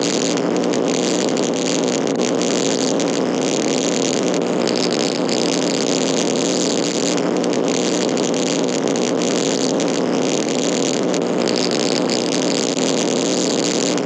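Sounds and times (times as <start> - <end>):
harsh electric buzz: 0.0 - 14.0.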